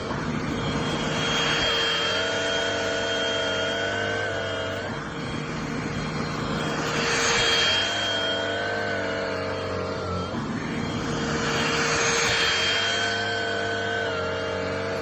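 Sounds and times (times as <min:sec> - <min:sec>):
hand vacuum running: 0:00.0 - 0:15.0.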